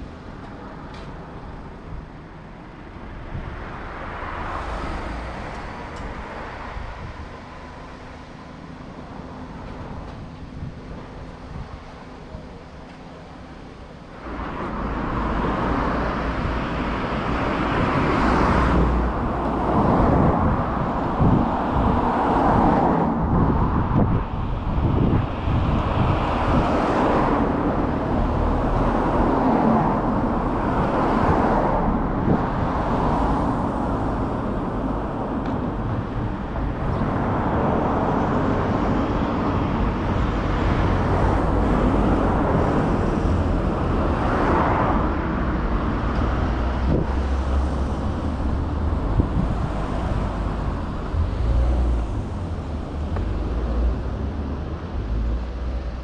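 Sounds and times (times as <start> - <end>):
cars passing: 0.0 - 56.0
steady low traffic rumble: 0.0 - 56.0.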